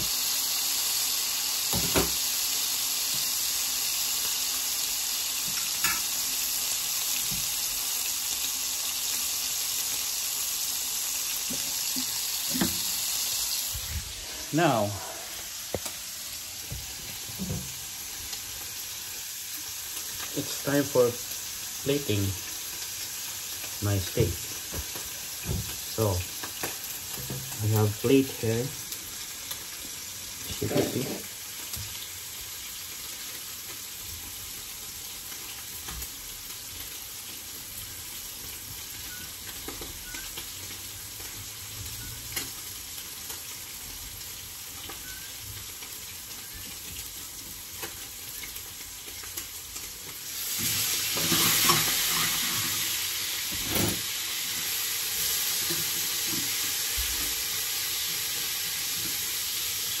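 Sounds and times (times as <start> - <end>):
food sizzling in frying pan: 0.0 - 60.0.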